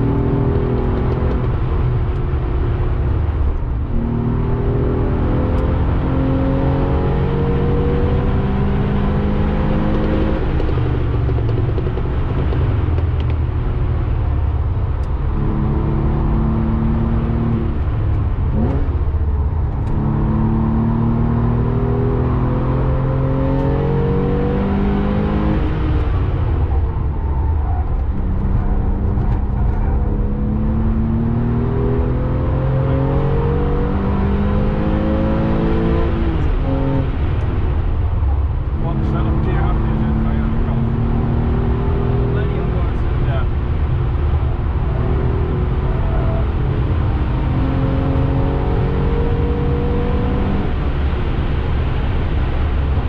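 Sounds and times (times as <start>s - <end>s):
car engine accelerating through gears: 0.0s - 53.0s
road noise rumble: 0.0s - 53.0s.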